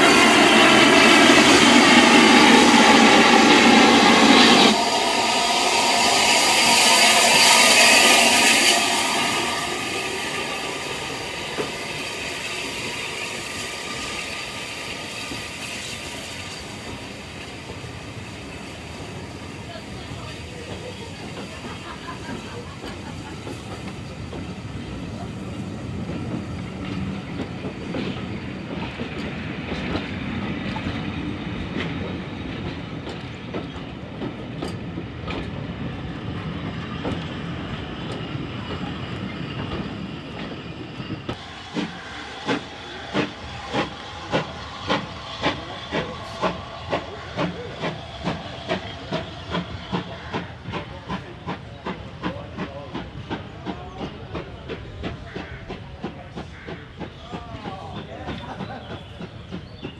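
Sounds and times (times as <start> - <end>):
steam locomotive exhaust chuffs: 0.0 - 59.9
steam locomotive rumbling hiss: 0.0 - 59.9.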